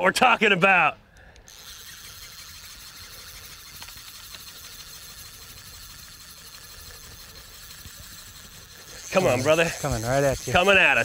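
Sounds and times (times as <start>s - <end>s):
faint ticks: 1.1s - 10.7s.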